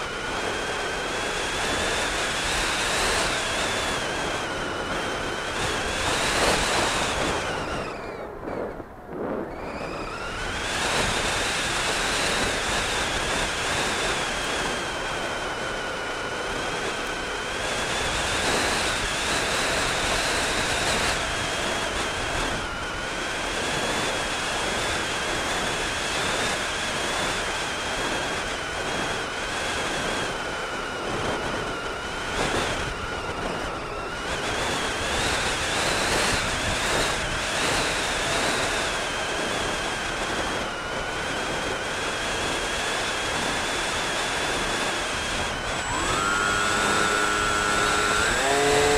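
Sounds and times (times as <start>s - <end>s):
steady high whine: 0.0s - 48.9s
wind rushing over microphone: 0.0s - 48.9s.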